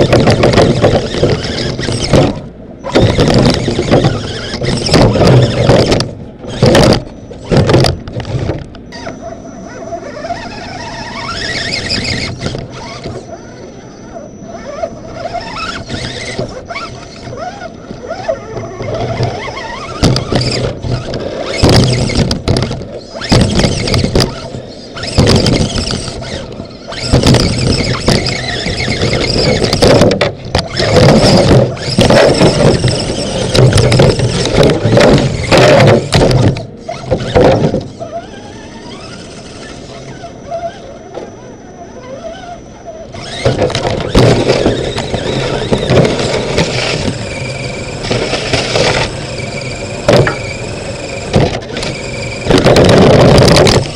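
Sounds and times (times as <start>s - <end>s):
toy car electric motor and gears: 0.0s - 53.9s.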